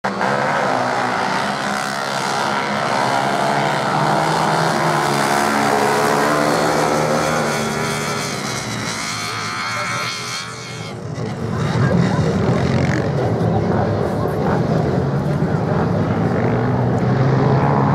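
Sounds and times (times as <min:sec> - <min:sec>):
motorcycle engines revving hard: 0:00.0 - 0:17.9.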